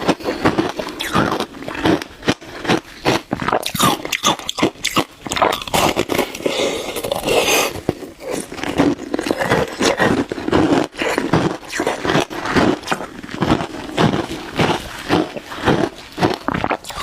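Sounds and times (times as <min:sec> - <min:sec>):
shaved ice being chewed: 0:00.0 - 0:17.0.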